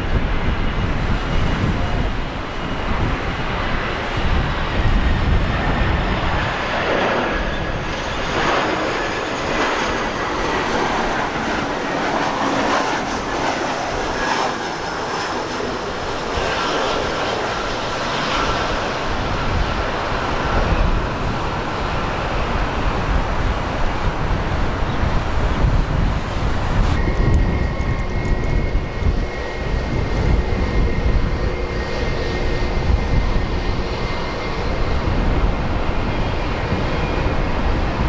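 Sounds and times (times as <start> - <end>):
jet engines running: 0.0 - 38.0
wind buffeting microphone: 0.0 - 38.0.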